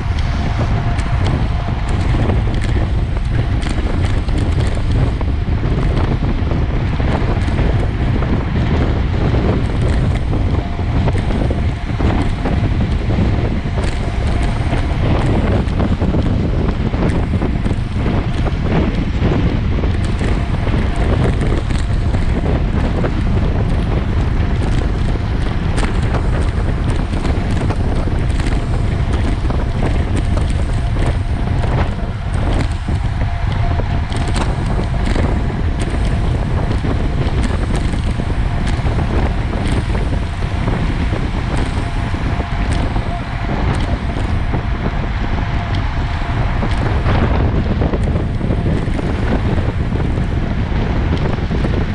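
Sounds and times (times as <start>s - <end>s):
bicycle knocks and rattles: 0.0s - 51.9s
wind buffeting microphone: 0.0s - 51.9s.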